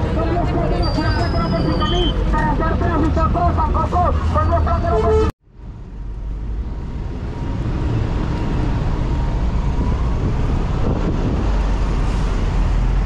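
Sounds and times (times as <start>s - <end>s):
buses and motorcycles passing: 0.0s - 13.0s
street traffic noise: 0.0s - 13.0s.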